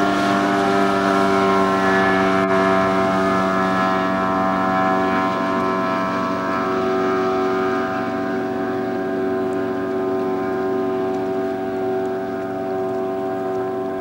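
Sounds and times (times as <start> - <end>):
hull rushing through water: 0.0 - 14.0
outboard engine running at speed: 0.0 - 14.0.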